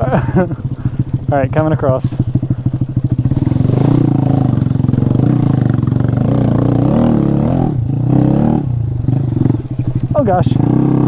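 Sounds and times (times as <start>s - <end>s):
motorcycle engine revving under load: 0.0s - 11.0s.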